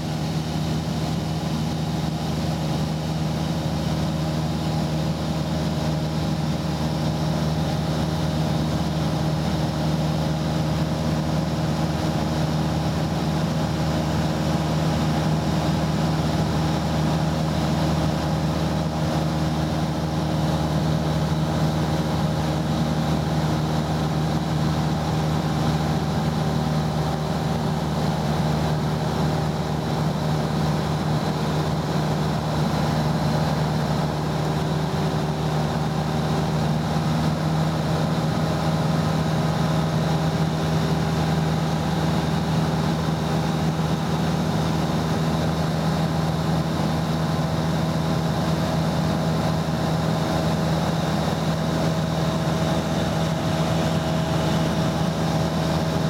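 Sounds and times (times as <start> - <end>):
aircraft engine drone: 0.0 - 56.0.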